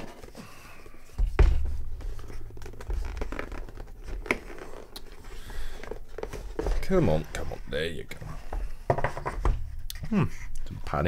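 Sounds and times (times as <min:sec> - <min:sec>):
cardboard scraping and rubbing: 0:00.0 - 0:09.8.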